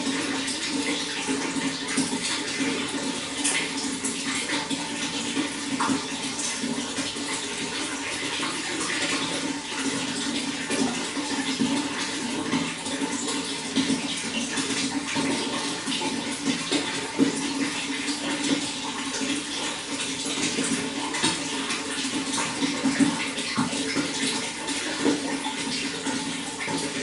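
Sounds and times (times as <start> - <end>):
running water splashing: 0.0 - 27.0.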